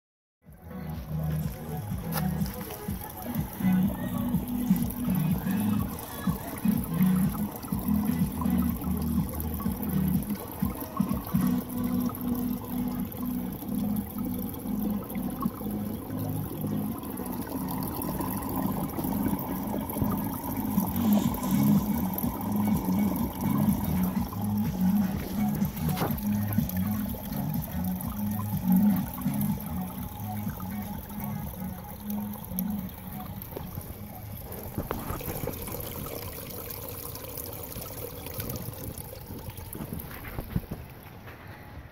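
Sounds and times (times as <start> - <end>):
water pouring into a tank: 0.6 - 41.9.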